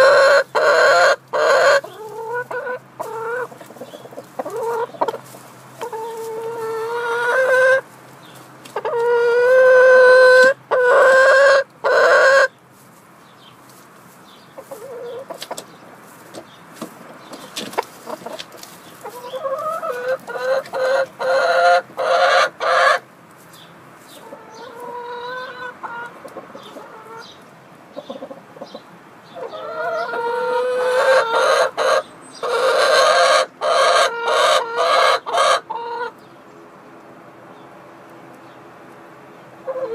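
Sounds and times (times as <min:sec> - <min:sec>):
hens cackling: 0:00.0 - 0:12.6, 0:14.5 - 0:23.1, 0:24.0 - 0:36.2, 0:39.6 - 0:39.9
hens clucking: 0:00.0 - 0:36.3, 0:38.2 - 0:39.9.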